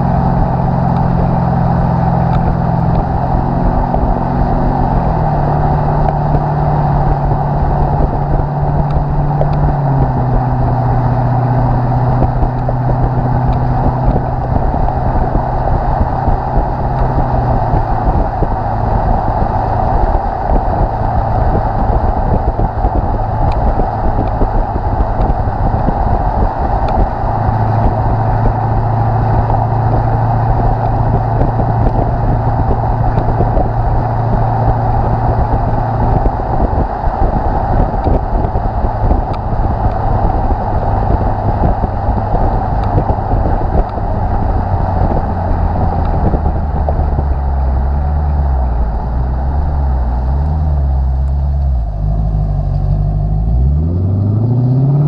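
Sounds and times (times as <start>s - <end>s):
car engine exhaust note: 0.0s - 55.0s
road and wind noise: 0.0s - 55.0s.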